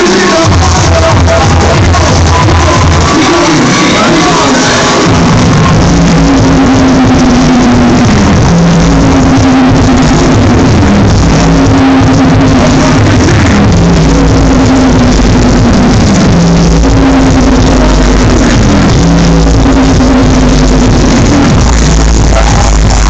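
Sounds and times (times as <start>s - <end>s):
distorted loud drum and bass: 0.0s - 23.0s.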